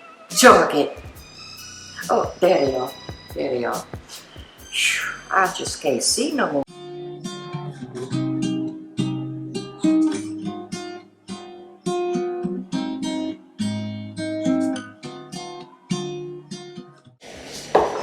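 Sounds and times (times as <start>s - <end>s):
acoustic guitar strumming chords: 0.0s - 6.0s, 6.7s - 17.0s.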